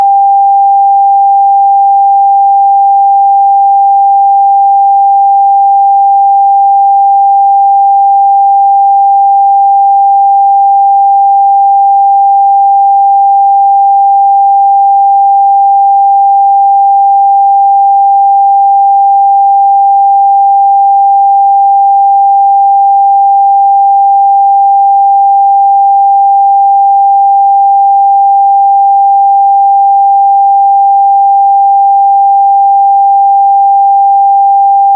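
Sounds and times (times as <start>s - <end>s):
sine test tone: 0.0s - 34.9s.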